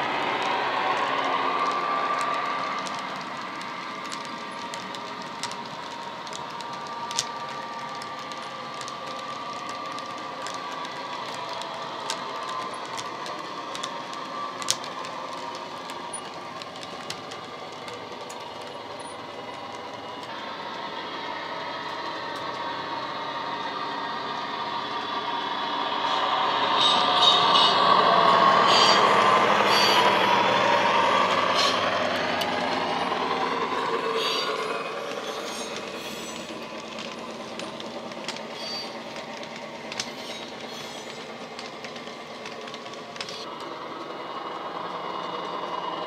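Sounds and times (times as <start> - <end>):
model diesel engine sound humming: 0.0 - 46.0
model wheels clicking on track: 0.0 - 46.0.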